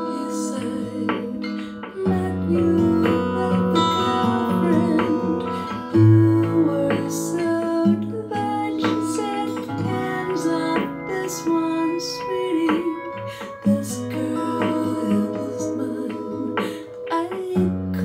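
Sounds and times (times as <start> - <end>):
plucked-string music over loudspeakers: 0.0 - 18.0.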